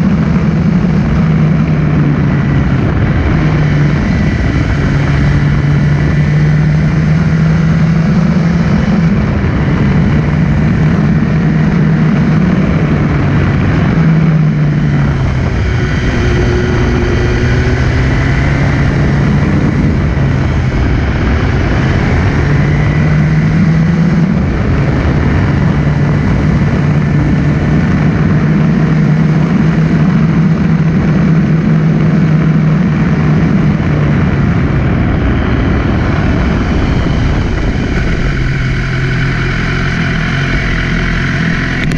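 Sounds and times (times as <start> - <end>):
motorcycle engine running: 0.0 - 41.9
road and air noise: 0.0 - 41.9.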